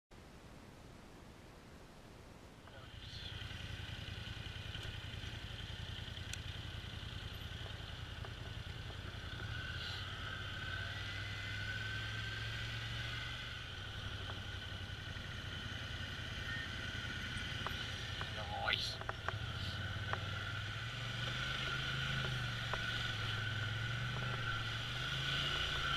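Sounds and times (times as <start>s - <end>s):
atv engine running: 2.7s - 25.9s.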